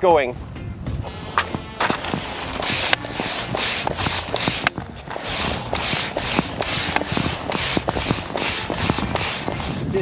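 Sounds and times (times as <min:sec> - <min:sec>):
hand pump air hissing: 0:01.8 - 0:10.0.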